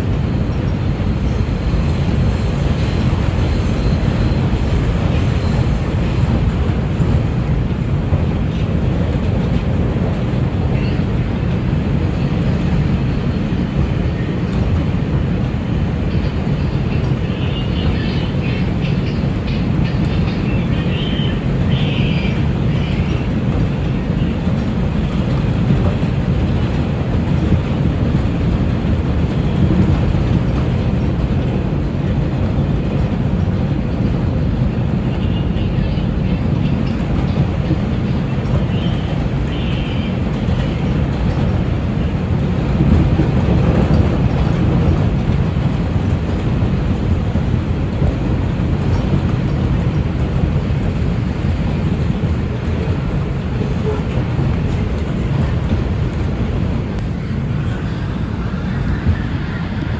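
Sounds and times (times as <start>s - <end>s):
subway train rumbling on rails: 0.0s - 59.9s.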